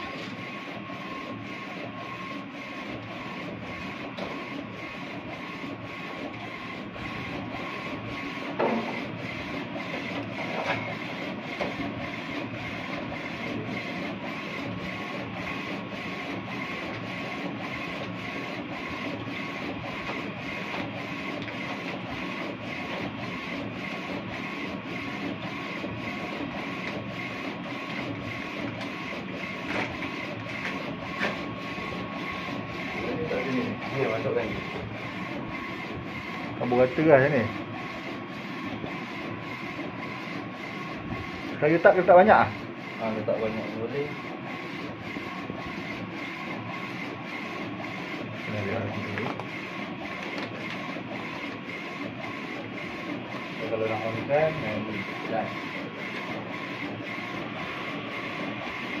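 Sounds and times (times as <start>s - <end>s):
printer carriage whirring: 0.0s - 59.0s.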